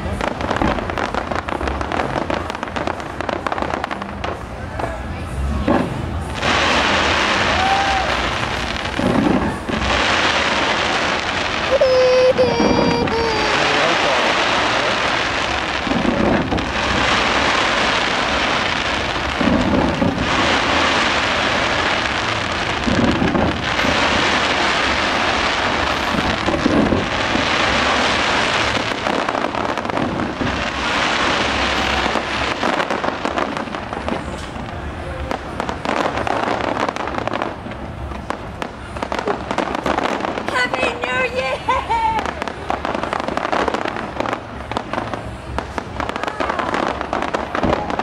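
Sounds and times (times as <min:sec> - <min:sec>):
deep fireworks boom: 0:00.0 - 0:41.0
fireworks hissing crackle: 0:00.0 - 0:48.0.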